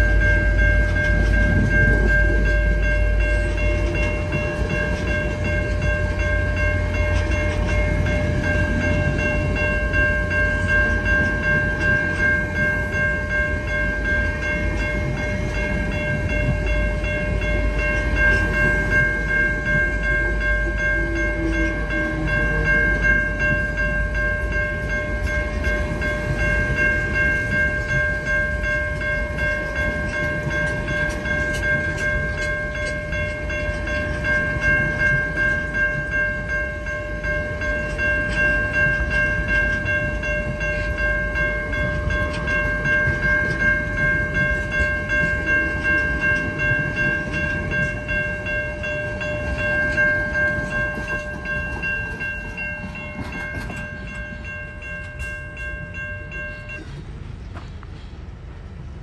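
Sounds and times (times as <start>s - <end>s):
high-pitched ringing: 0.0s - 57.6s
train rumbling past: 0.0s - 59.0s.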